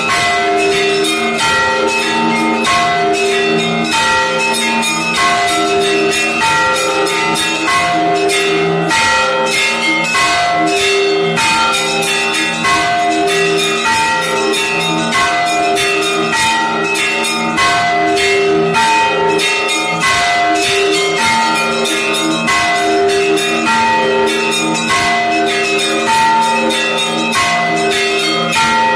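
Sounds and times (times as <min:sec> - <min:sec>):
large low church bells: 0:00.0 - 0:28.9
small high church bells: 0:00.0 - 0:28.9.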